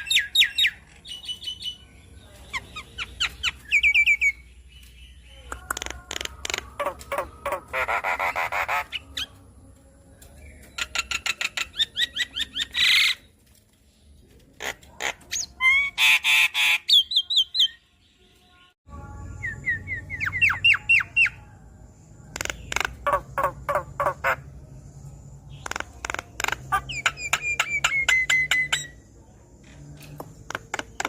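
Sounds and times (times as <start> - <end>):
myna bird singing: 0.0 - 31.0.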